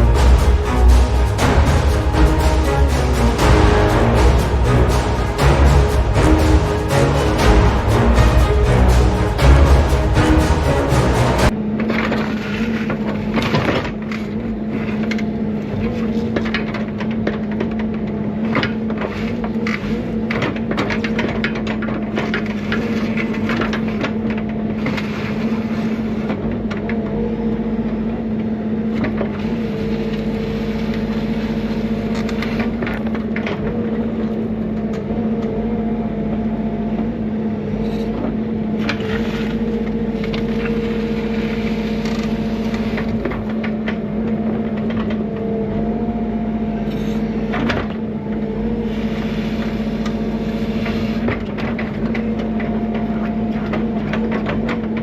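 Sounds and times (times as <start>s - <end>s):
excavator diesel engine running: 0.0s - 11.7s, 21.7s - 55.0s.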